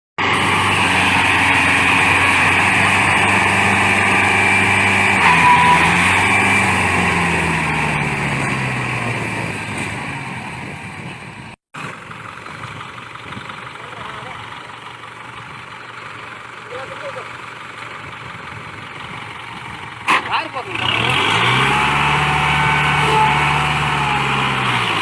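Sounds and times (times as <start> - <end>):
tractor engine running: 0.2 - 25.0.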